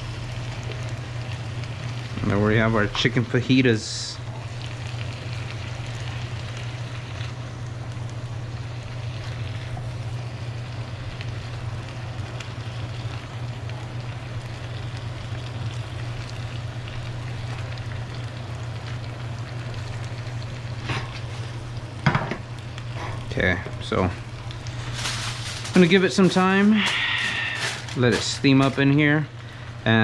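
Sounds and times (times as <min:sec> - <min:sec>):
food sizzling in a pan: 0:00.0 - 0:30.0.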